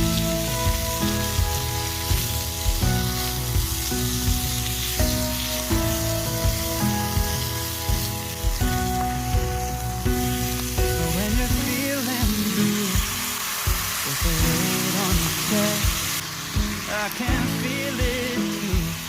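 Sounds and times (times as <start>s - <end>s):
background music with steady beat: 0.0s - 19.0s
food sizzling in a pan: 0.0s - 19.0s.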